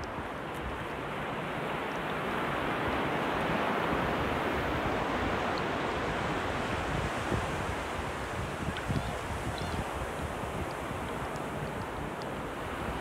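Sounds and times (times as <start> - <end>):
wind on microphone: 2.5 - 13.0.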